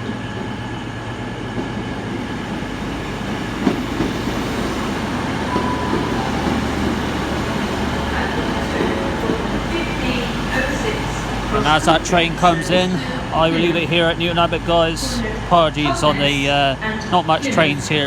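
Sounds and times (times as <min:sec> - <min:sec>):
train wheels rumbling on rail: 0:00.0 - 0:16.1
diesel engine humming: 0:00.2 - 0:16.6.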